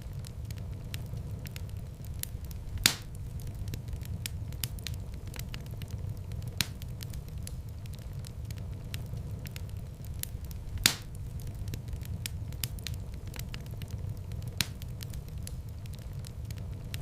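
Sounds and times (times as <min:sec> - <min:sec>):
fire popping: 0:00.0 - 0:17.0
wood fire burning: 0:00.0 - 0:17.0.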